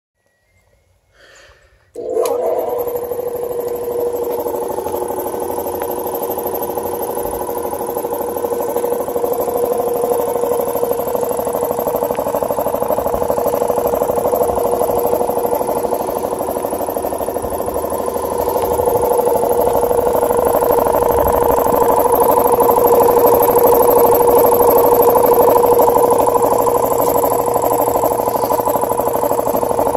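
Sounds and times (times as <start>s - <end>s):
air compressor running: 2.0s - 29.9s.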